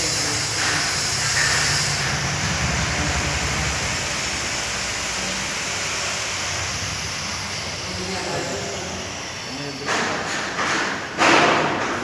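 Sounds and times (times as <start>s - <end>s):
steady hissing: 0.0s - 10.7s.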